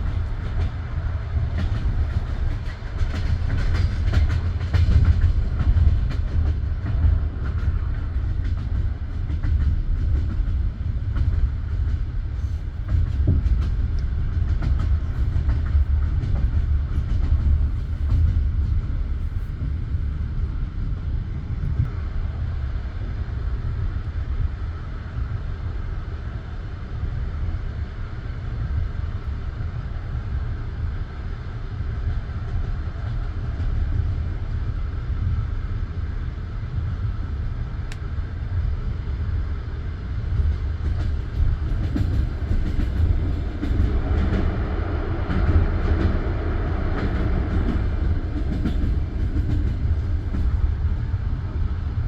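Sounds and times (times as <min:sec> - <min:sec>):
train carriage rumble: 0:00.0 - 0:52.0.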